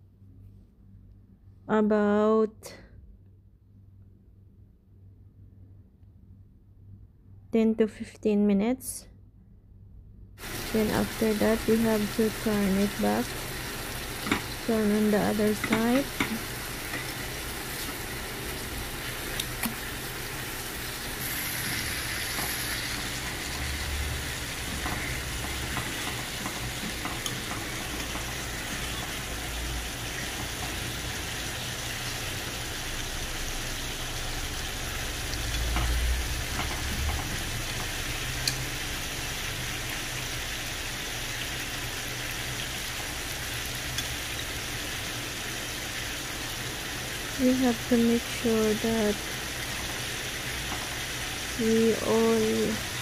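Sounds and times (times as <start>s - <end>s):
chicken sizzling as it fries: 10.4s - 53.0s.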